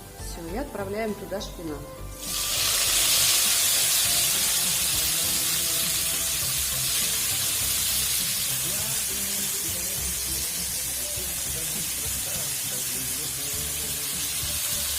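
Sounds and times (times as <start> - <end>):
greens sizzling in hot oil: 2.2 - 14.9.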